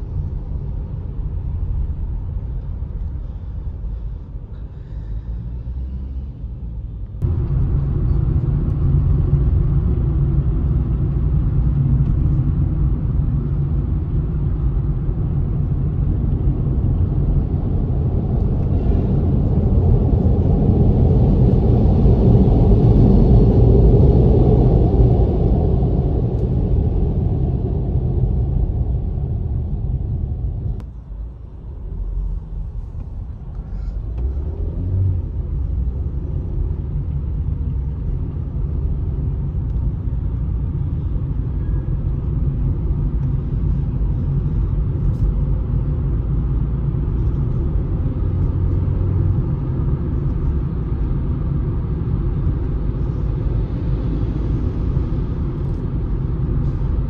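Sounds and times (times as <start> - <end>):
road rumble inside car: 0.0 - 57.0.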